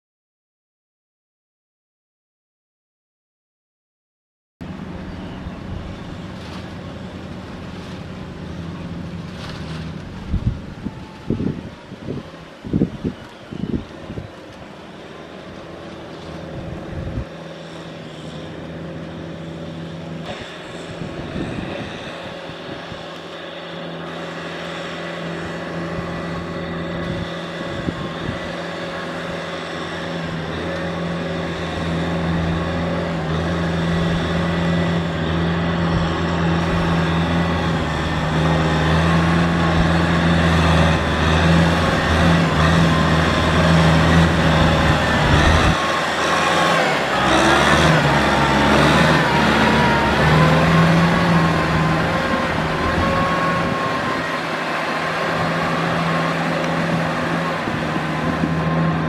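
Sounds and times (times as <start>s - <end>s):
tractor diesel engine running: 4.6s - 59.0s.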